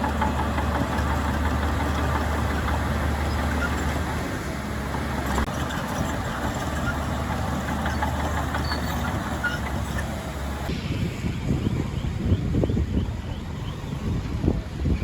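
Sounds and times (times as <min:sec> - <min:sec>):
heavy diesel engine droning: 0:00.0 - 0:14.8.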